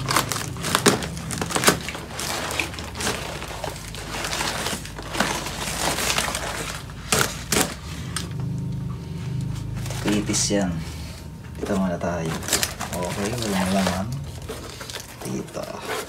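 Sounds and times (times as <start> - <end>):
paper crinkling and rustling: 0.0 - 8.2, 9.4 - 10.6, 11.5 - 16.0.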